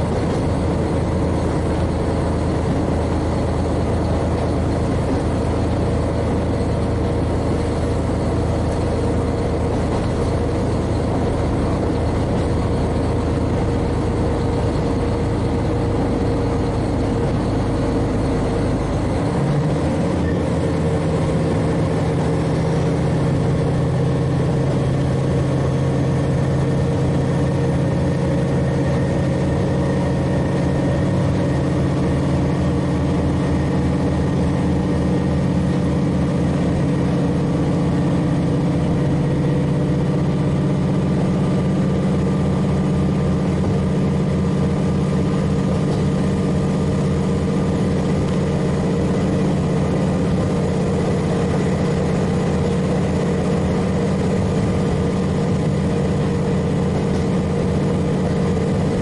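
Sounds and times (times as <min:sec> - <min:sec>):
diesel engine running under load: 0:00.0 - 0:59.0
train running rumble: 0:00.0 - 0:59.0.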